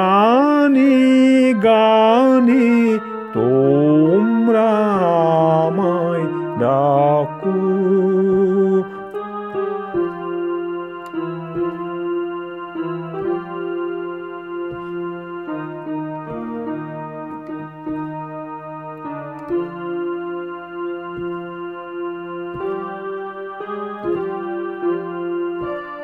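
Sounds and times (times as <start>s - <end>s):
electronic keyboard playing: 0.0s - 26.0s.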